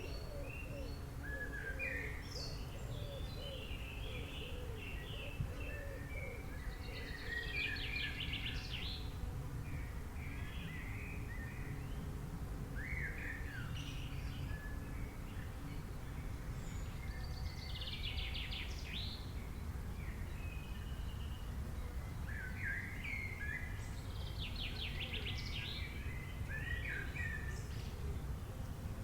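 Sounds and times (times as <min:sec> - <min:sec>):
songbirds singing: 0:00.0 - 0:29.0.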